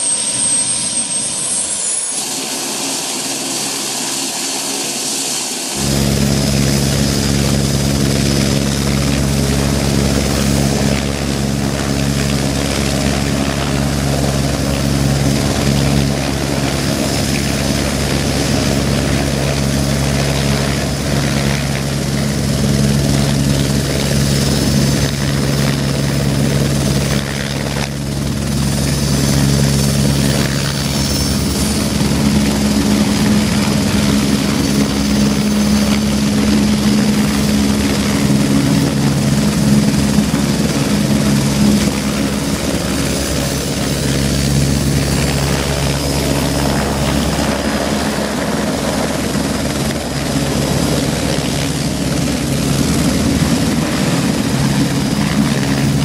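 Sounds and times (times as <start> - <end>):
faint turbine whine: 0.0 - 56.0
helicopter rotor drone: 0.0 - 56.0.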